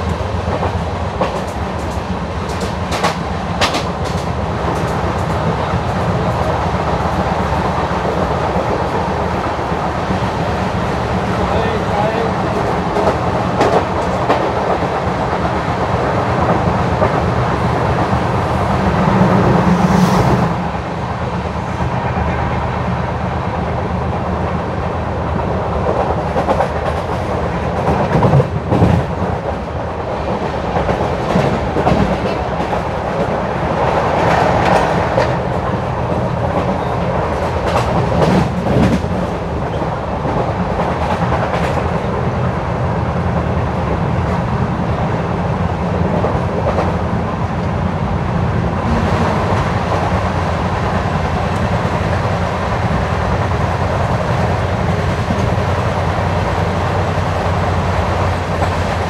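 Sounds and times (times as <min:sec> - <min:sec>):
rail clicks: 0:00.0 - 0:59.0
train wheels rumbling on rails: 0:00.0 - 0:59.0.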